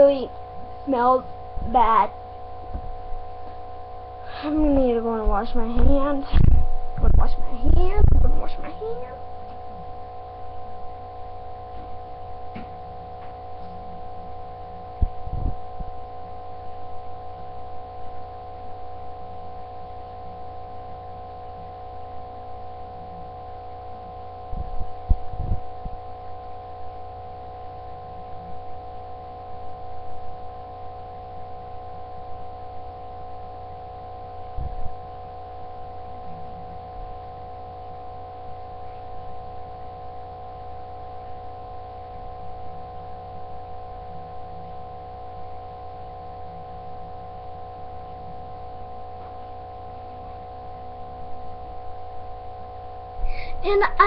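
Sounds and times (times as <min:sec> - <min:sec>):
steady hum of held tones: 0:00.0 - 0:54.0.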